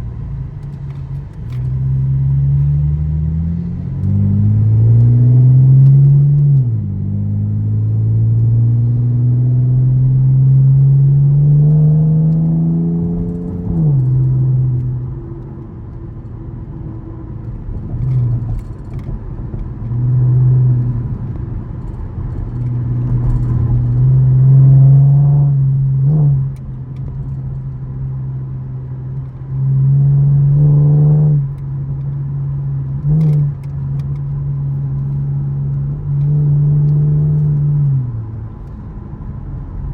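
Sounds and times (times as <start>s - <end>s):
car engine accelerating through gears: 0.4s - 39.9s.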